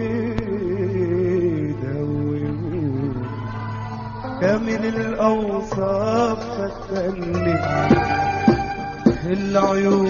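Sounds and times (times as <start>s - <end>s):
ornamented song melody: 0.0s - 10.0s.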